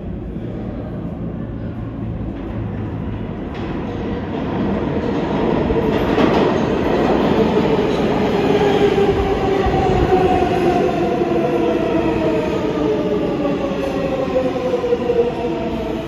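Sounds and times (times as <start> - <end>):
subway train rail noise: 0.0 - 16.0.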